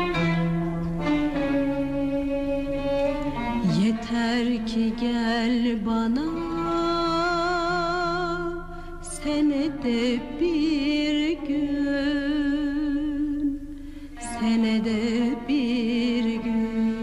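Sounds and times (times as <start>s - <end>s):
slow song with vibrato melody: 0.0s - 17.0s.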